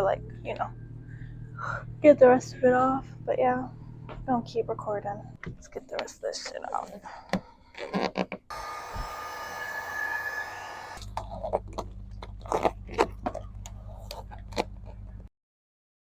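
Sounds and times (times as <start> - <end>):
low steady hum: 0.0 - 7.8, 8.5 - 15.3.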